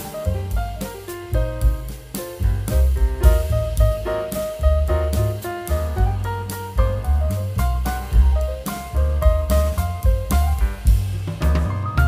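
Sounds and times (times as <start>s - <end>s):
drums and heavy bass music: 0.0s - 12.0s.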